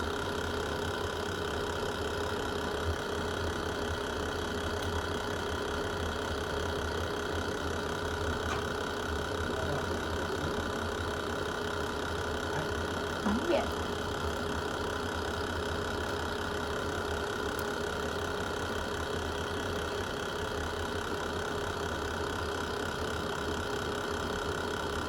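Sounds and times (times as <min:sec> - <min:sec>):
constant hum: 0:00.0 - 0:22.1
wood fire roaring in fireplace: 0:00.0 - 0:25.0.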